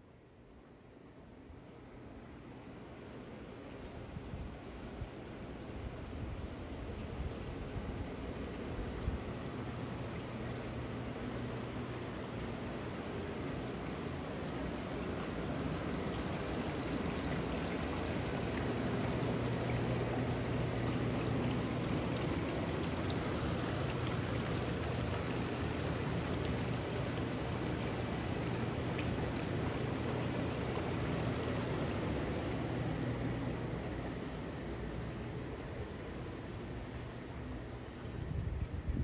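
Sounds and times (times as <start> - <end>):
steady low hum: 0.0 - 39.0
water churning and bubbling: 2.3 - 39.0.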